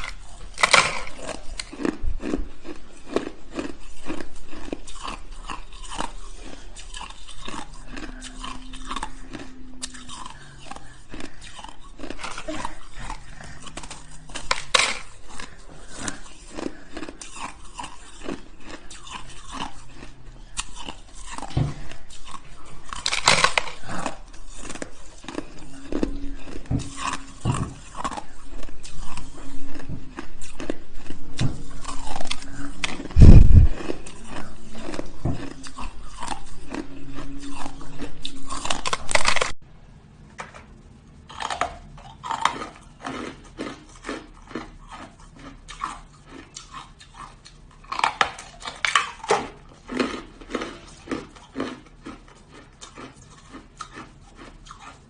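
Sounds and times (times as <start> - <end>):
crunching shaved ice: 0.0 - 39.6, 41.3 - 55.0.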